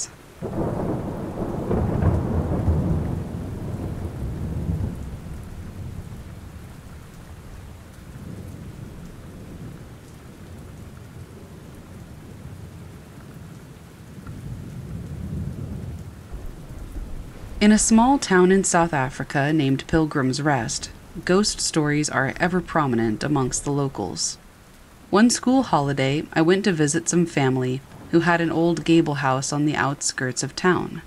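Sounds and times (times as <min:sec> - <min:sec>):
steady rain: 0:00.0 - 0:31.0
low thunder rumble: 0:00.4 - 0:31.0.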